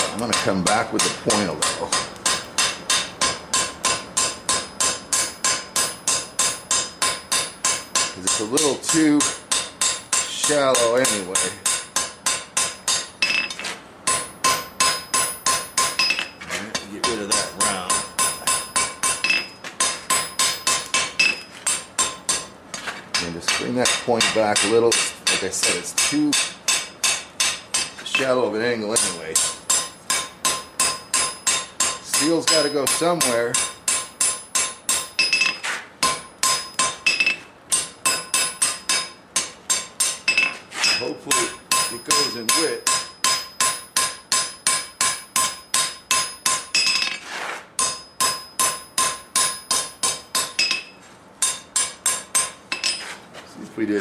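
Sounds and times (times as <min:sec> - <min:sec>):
hammer striking hot steel: 0:00.0 - 0:47.2, 0:47.8 - 0:53.1
anvil ringing: 0:01.0 - 0:22.5, 0:23.2 - 0:47.2, 0:47.8 - 0:53.0.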